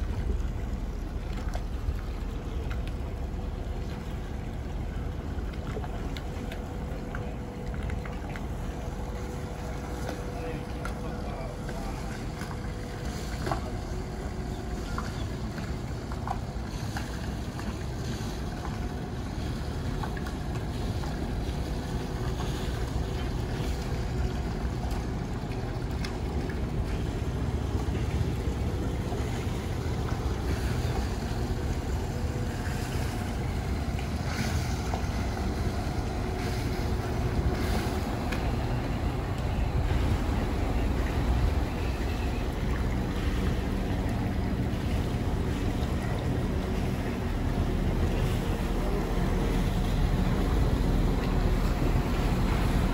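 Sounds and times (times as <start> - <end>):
boat engines low rumble: 0.0 - 52.9
churning water: 0.0 - 52.9.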